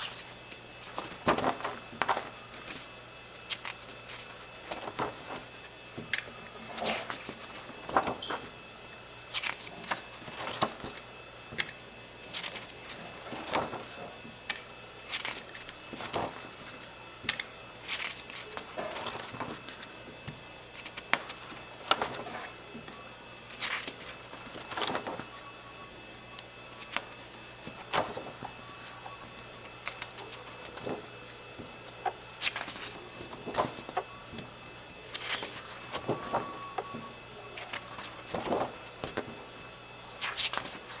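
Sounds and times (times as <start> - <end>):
album pages turning: 0.0 - 8.5, 9.3 - 19.9, 20.7 - 25.4, 26.7 - 34.5, 35.1 - 37.0, 37.6 - 39.4, 40.2 - 41.0.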